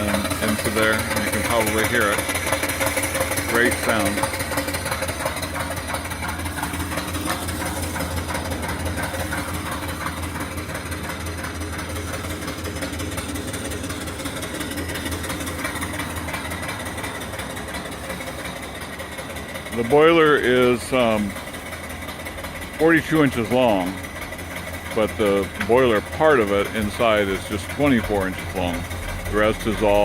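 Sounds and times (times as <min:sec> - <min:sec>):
steam engine chuffing: 0:00.0 - 0:30.0.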